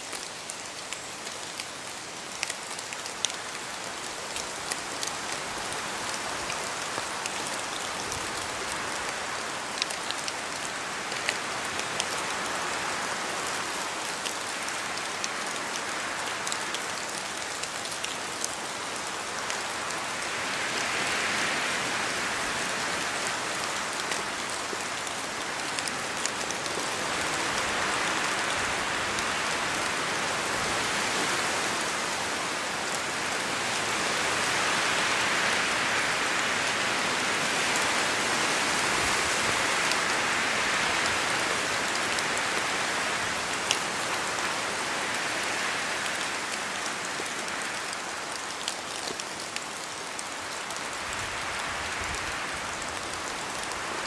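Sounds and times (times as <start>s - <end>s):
steady rain in a forest: 0.0s - 54.0s.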